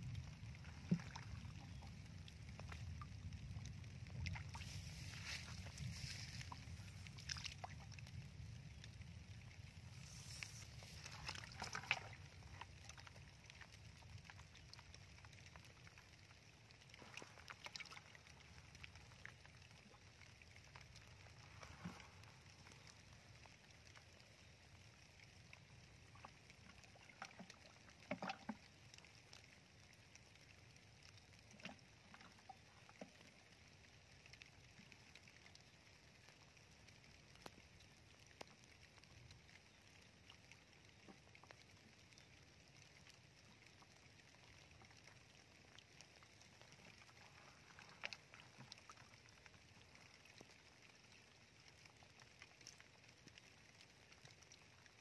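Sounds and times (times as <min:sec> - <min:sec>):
water trickling in a channel: 0:00.0 - 0:55.0.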